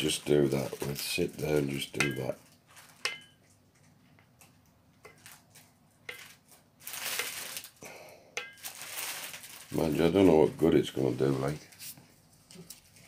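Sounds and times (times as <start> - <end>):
rustling noise: 0.0 - 3.9, 5.0 - 7.8, 8.6 - 13.0.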